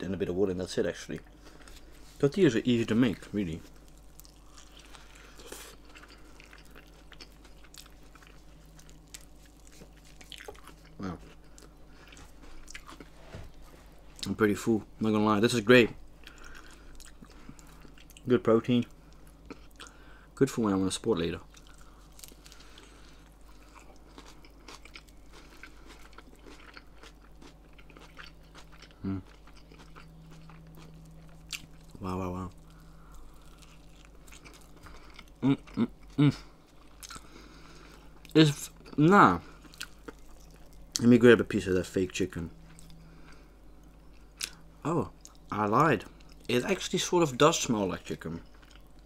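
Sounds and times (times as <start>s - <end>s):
low steady hum: 0.0s - 49.0s
soft chewing with crunches: 0.9s - 14.7s, 15.7s - 20.2s, 20.8s - 49.0s.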